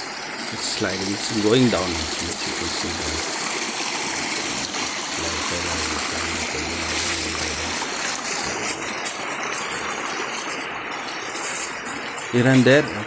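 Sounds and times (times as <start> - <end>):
waterfall rushing over rocks: 0.0 - 13.0.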